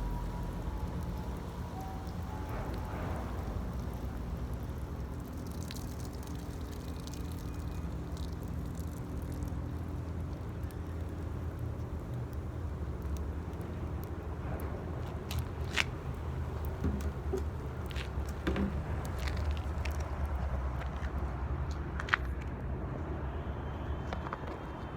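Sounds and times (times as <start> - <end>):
wood fire crackling and popping: 0.0 - 21.2
low fire rumble: 0.0 - 22.0.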